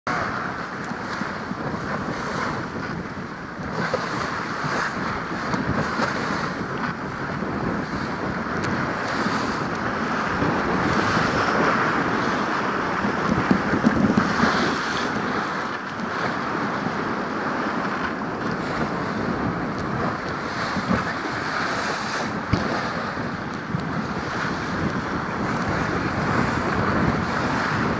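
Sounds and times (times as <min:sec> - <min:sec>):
water rushing along boat hull: 0:00.0 - 0:27.9
wind buffeting microphone: 0:00.1 - 0:27.9.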